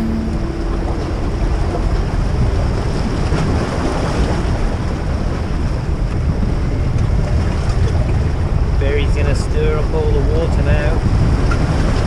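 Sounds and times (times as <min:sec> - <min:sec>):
waves washing against rocks: 0:00.0 - 0:12.0
wind noise on microphone: 0:00.0 - 0:12.0.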